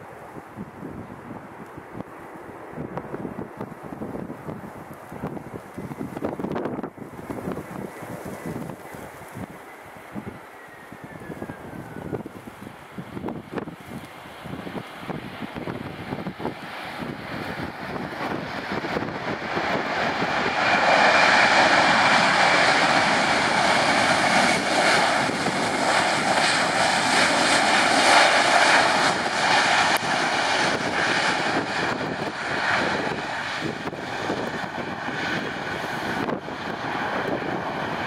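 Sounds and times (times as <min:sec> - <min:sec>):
jet engines rushing: 0:00.1 - 0:38.0.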